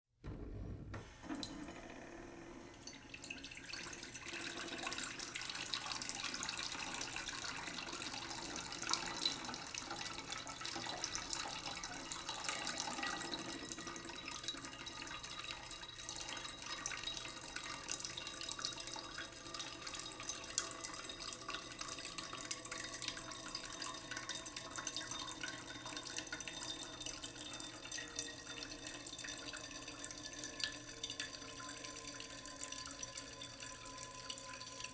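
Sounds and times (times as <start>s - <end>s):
tap water filling a pot: 0.9s - 1.8s, 2.8s - 34.9s.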